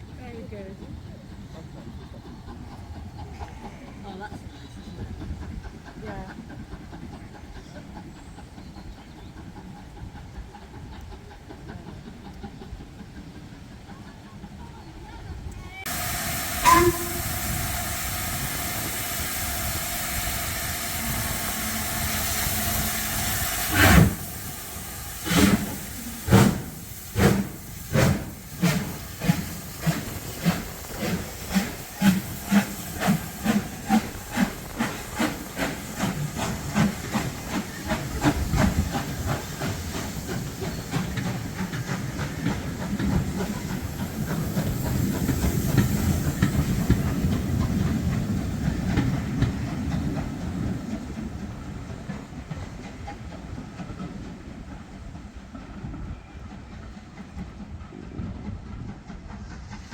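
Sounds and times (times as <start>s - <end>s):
steam locomotive hissing steam: 0.0s - 59.9s
steam locomotive exhaust chuffs: 0.1s - 59.9s.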